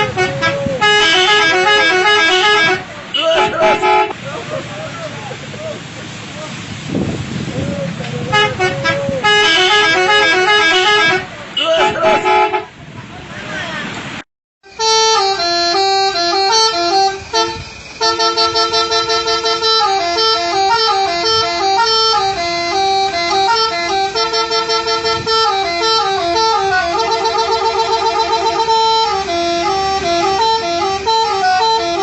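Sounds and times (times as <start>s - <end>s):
multi-tone horn melody: 0.0s - 4.2s, 8.2s - 12.8s, 14.6s - 32.0s.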